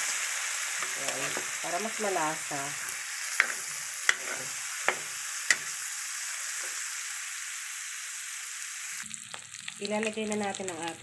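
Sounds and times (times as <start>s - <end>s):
pork sizzling in a wok: 0.0s - 11.0s.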